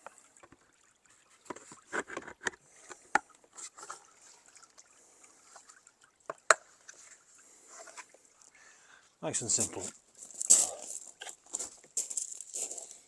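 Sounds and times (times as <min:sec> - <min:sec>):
water trickling faintly: 0:00.0 - 0:13.0.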